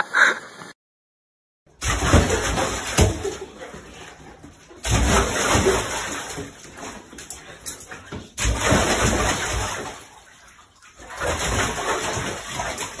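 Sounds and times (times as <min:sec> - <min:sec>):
dog splashing in bathtub water: 0:01.7 - 0:13.0.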